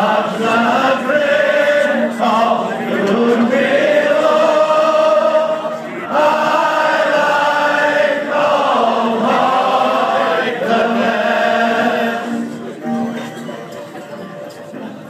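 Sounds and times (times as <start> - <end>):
men singing together: 0.0 - 12.6.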